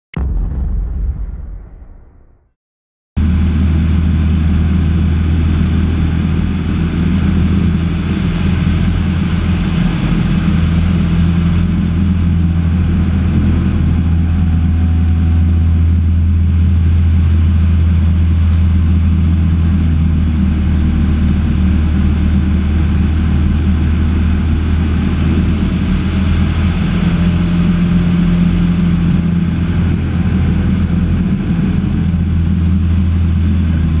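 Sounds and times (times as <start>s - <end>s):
airplane engine droning: 3.2s - 34.0s.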